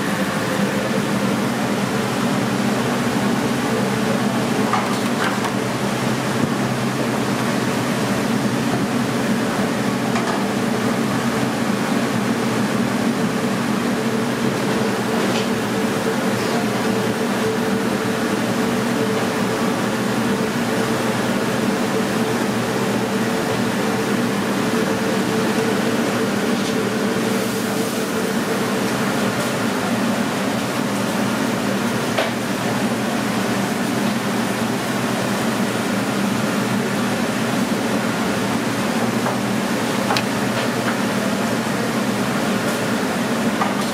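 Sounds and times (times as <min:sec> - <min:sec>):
ventilation fans humming: 0:00.0 - 0:43.9.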